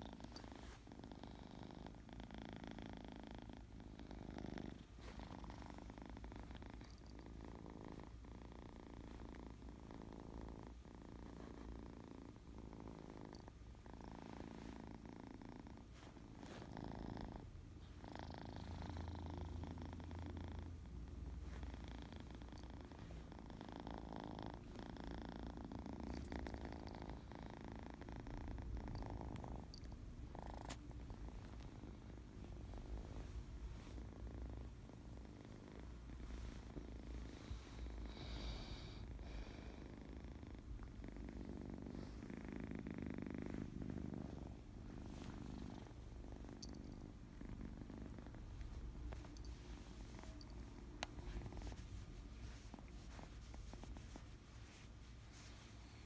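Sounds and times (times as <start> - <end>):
kitten purring: 0.0 - 56.0.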